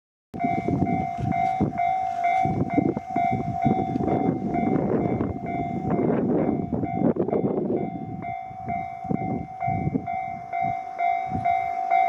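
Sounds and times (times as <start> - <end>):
level-crossing warning bell: 0.4 - 12.0.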